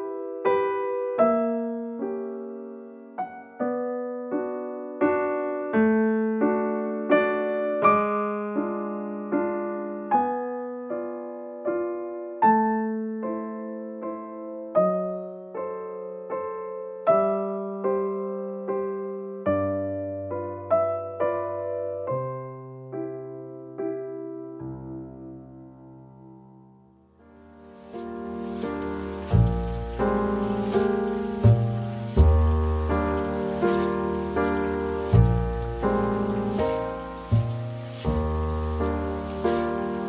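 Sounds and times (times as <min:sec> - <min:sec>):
slow solo piano music: 0:00.0 - 0:40.0.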